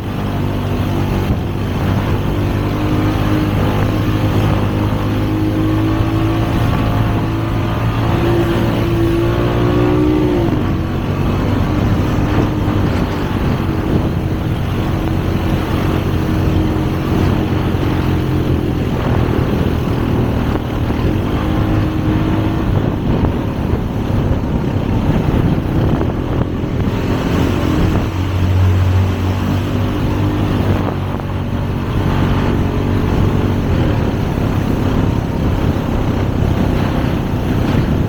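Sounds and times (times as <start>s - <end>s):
rough road noise: 0.0s - 38.0s
vehicle engine running: 0.0s - 38.0s.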